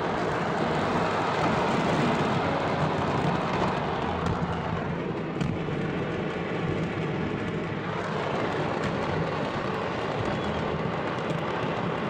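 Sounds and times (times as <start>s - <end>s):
fireworks crackling: 0.0s - 12.0s
sharp firework cracks: 0.1s - 12.0s.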